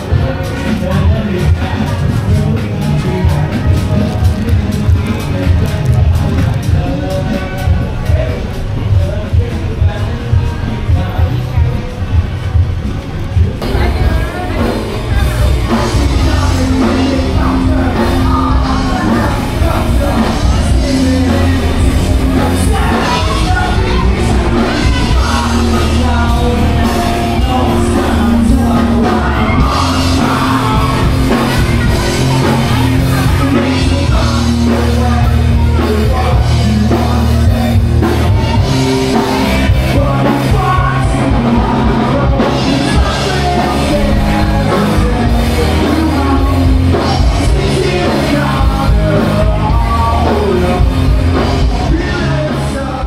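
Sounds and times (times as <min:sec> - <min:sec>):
rock music with singing: 0:00.0 - 0:53.0.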